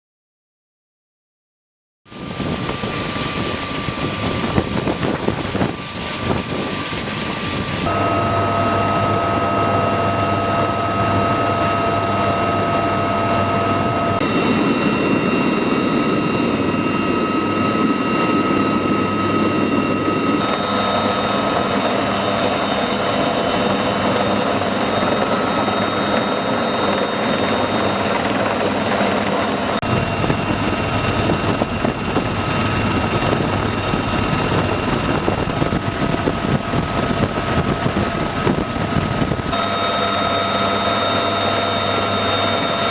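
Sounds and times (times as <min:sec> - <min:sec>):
helicopter rotor noise: 0:02.1 - 0:42.9
helicopter turbine whine: 0:02.1 - 0:42.9.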